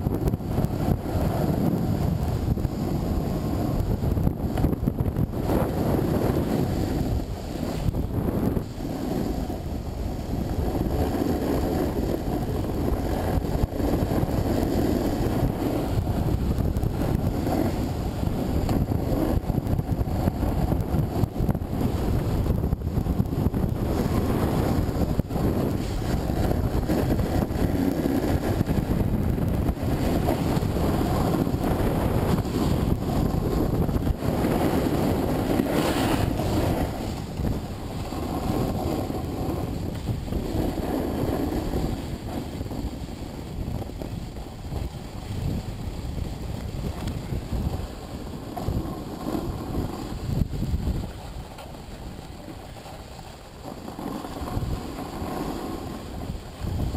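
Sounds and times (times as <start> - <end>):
wind buffeting microphone: 0.0 - 56.9
skis hissing on snow: 0.5 - 4.6, 5.2 - 56.9.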